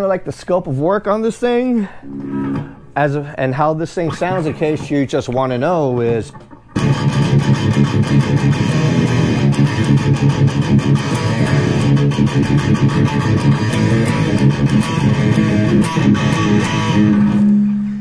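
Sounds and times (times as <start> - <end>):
electric guitar riffing: 2.0 - 3.0, 4.0 - 18.0.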